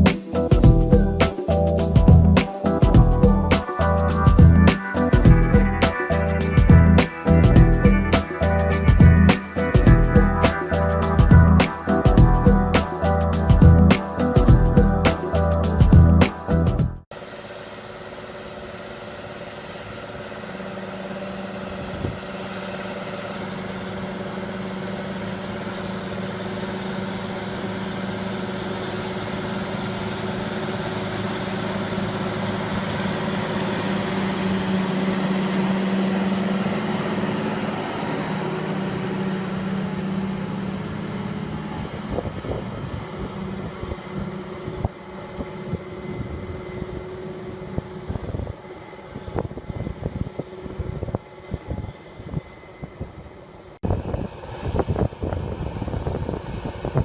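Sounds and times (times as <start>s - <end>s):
heavy machine engine running: 0.0s - 57.0s.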